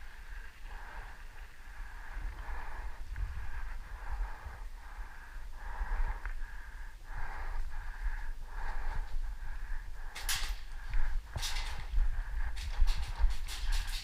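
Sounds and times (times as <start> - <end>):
person breathing heavily: 0.0 - 14.0
wind rumble on microphone: 0.0 - 14.0.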